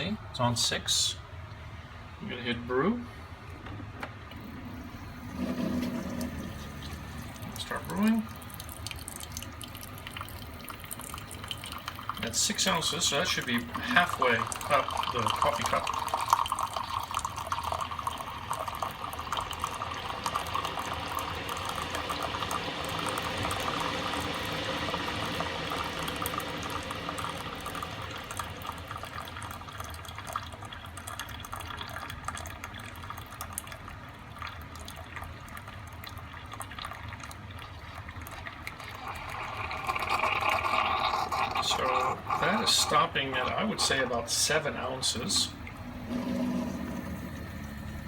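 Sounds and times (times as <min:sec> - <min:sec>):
coffee pouring into a cup: 0:04.3 - 0:48.0.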